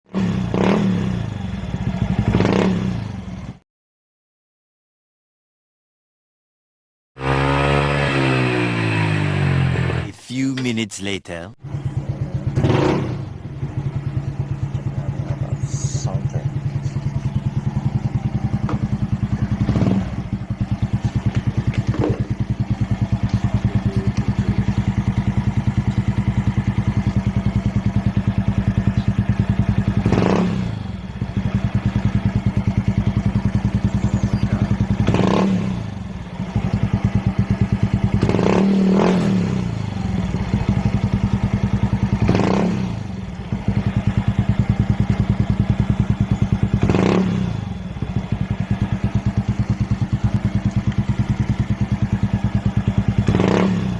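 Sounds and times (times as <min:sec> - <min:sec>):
scooter engine idling and revving: 0:00.1 - 0:03.6, 0:07.2 - 0:10.1, 0:11.6 - 0:53.9.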